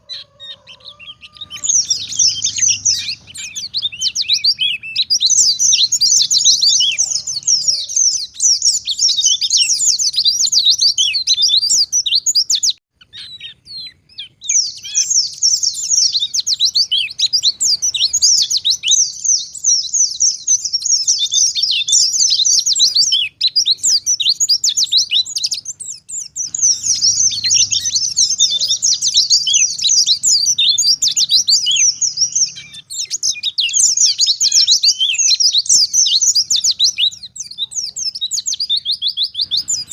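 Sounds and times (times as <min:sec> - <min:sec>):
bird twittering high notes: 0:00.0 - 0:39.9.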